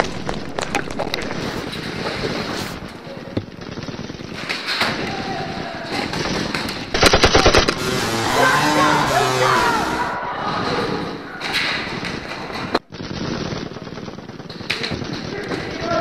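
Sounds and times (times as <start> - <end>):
rapid gunfire: 0.0 - 10.1, 11.4 - 16.0.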